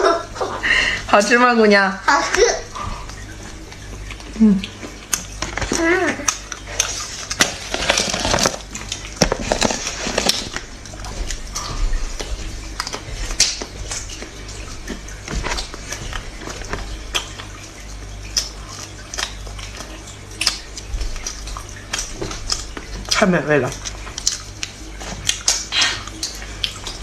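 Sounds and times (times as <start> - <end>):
low steady hum: 0.0 - 27.0
chewing and mouth sounds: 2.2 - 27.0.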